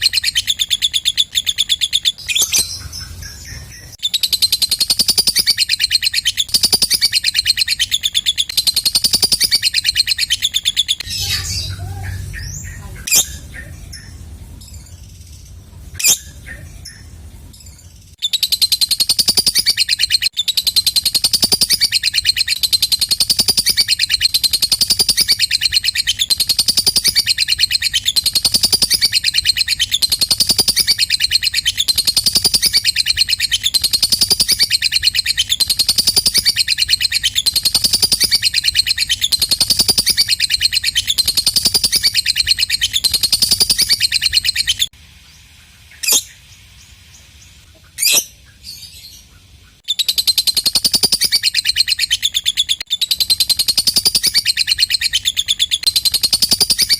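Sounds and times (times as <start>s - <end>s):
lovebird chattering trill: 0.0s - 44.9s, 47.7s - 56.9s.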